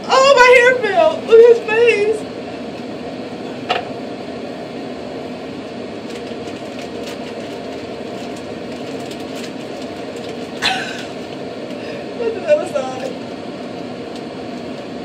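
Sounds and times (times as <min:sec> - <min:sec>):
ventilation fan humming: 0:00.0 - 0:15.0.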